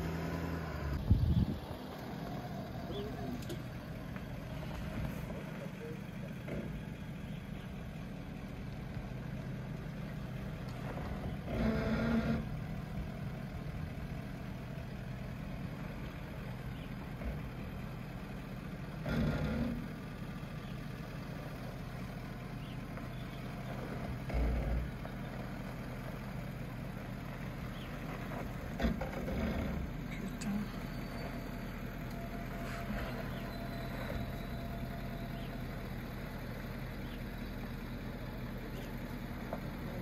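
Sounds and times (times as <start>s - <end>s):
truck engine running: 0.0s - 40.0s.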